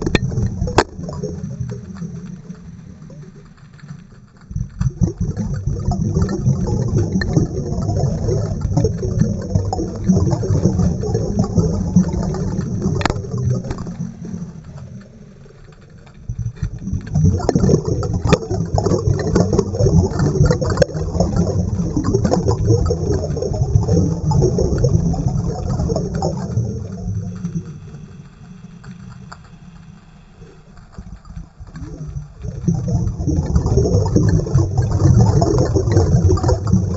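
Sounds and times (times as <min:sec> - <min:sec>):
crackling and sharp clicks: 0:00.0 - 0:36.9
low rumbling water: 0:00.0 - 0:36.9.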